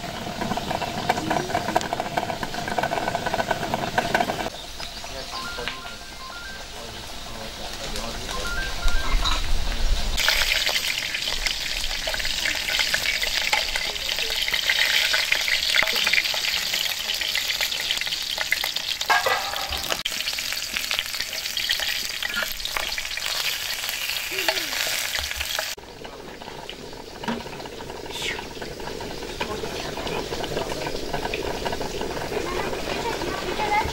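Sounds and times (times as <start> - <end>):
food sizzling in hot oil: 0.0 - 33.9.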